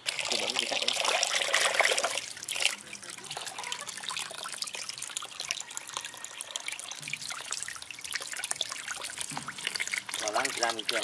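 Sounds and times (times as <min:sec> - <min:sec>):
small water splashes: 0:00.0 - 0:11.0
water trickling and dripping: 0:00.0 - 0:11.0.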